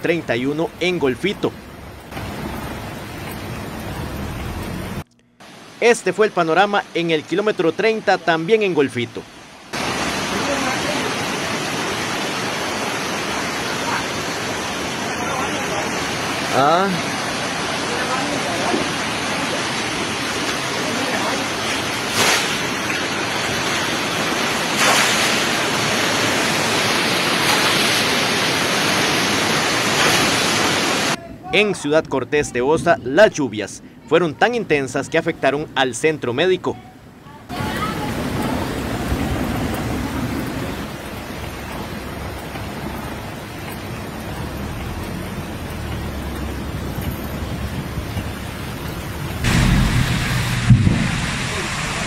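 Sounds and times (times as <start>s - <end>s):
heavy rain pouring: 0.0s - 31.2s, 37.5s - 52.0s
floodwater rushing: 0.0s - 31.6s, 37.5s - 52.0s.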